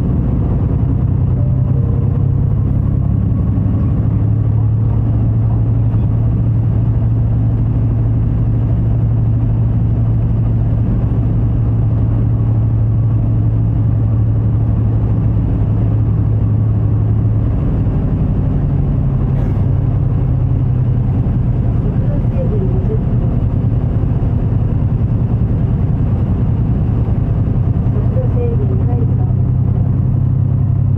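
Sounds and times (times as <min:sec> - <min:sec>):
bus engine droning: 0:00.0 - 0:30.9.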